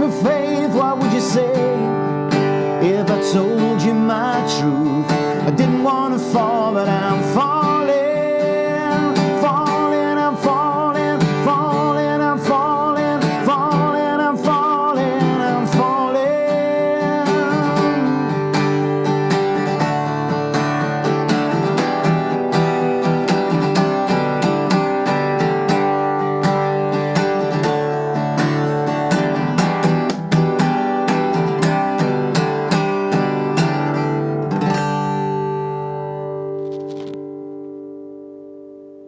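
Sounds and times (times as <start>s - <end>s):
acoustic guitar strumming chords: 0.0s - 39.0s.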